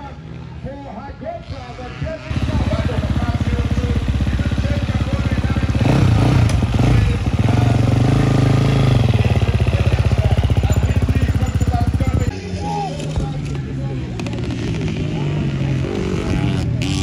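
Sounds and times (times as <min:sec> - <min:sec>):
motorcycle engines running: 0:00.0 - 0:17.0
motorcycle revving: 0:01.3 - 0:17.0.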